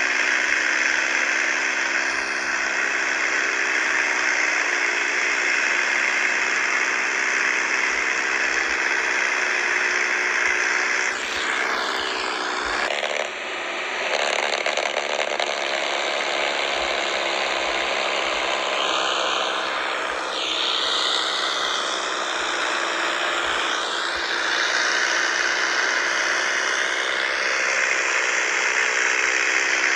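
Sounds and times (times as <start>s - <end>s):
toy electric motor whirring: 0.0s - 29.9s.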